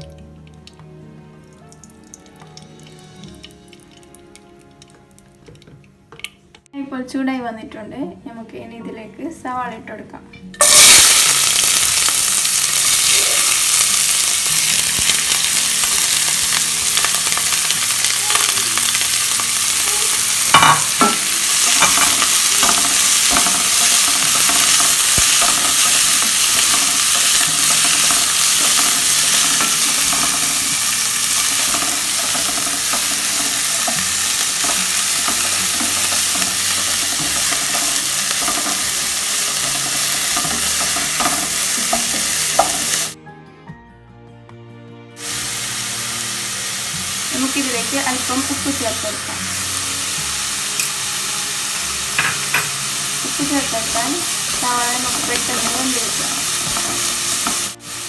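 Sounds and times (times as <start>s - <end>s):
onions sizzling in hot oil: 2.0s - 5.1s, 10.6s - 43.2s, 45.2s - 58.0s.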